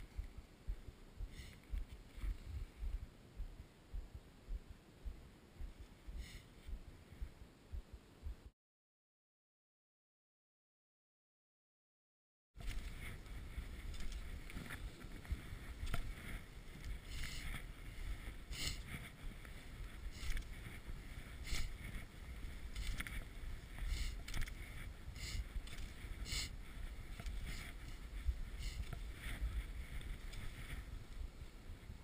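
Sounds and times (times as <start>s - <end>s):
wind rumbling on microphone: 0.0s - 8.5s, 12.6s - 32.0s.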